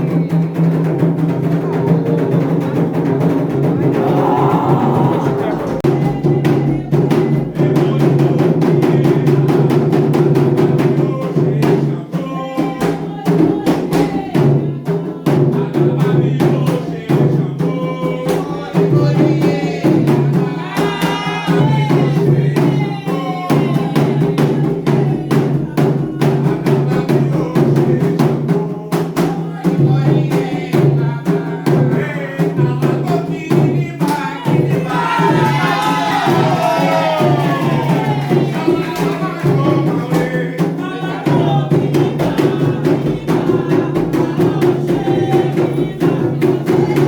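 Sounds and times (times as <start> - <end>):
hand drums playing fast rhythm: 0.0 - 47.0
voices singing: 2.8 - 47.0.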